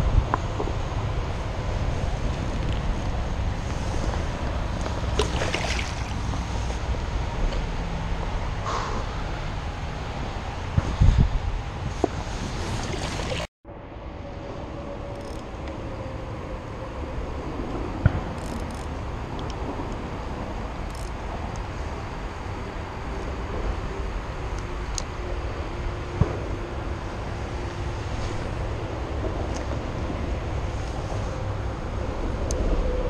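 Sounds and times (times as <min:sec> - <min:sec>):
distant road traffic rumble: 0:00.0 - 0:33.0.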